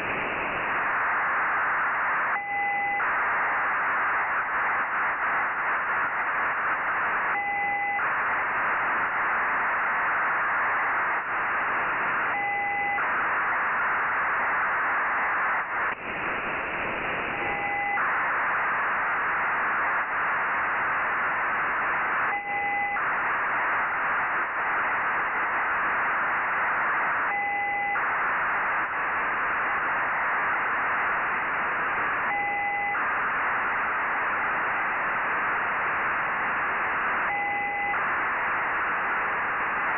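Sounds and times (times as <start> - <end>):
hissing radio data signal: 0.0 - 39.9.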